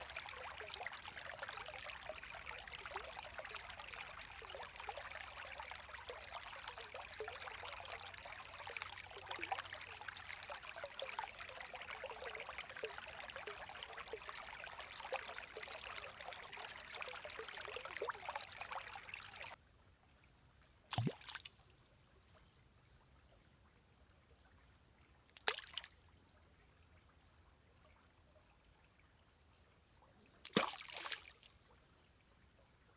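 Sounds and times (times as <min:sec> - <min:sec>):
stream trickling: 0:00.0 - 0:32.9.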